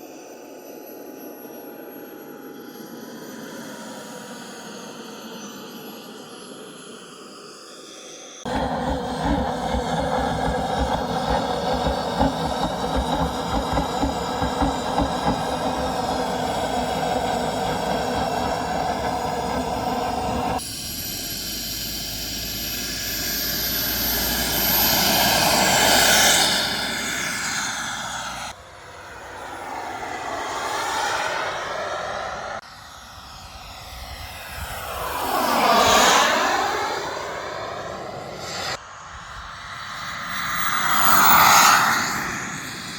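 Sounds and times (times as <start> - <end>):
model aircraft engine running: 8.5 - 42.9.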